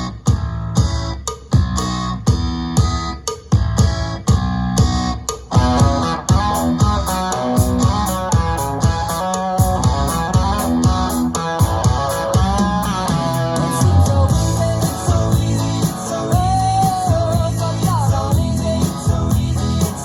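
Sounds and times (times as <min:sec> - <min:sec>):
instrumental rock music on speaker: 0:00.0 - 0:20.0.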